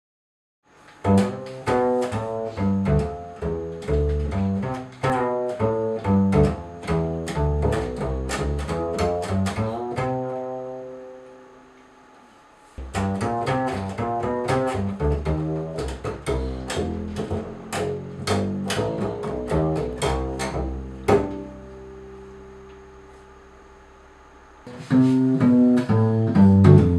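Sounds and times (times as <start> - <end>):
double bass plucked: 0.9 - 12.0, 12.8 - 26.9.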